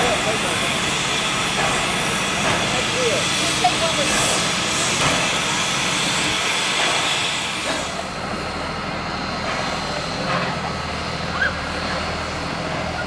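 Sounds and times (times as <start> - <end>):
train rushing roar: 0.0 - 13.0.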